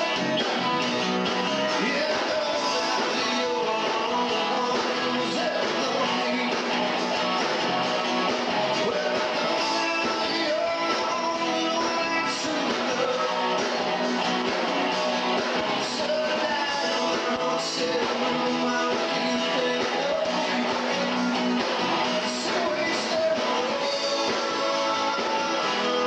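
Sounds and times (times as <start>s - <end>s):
rock band playing live: 0.0s - 26.0s
strummed guitar: 0.0s - 26.0s.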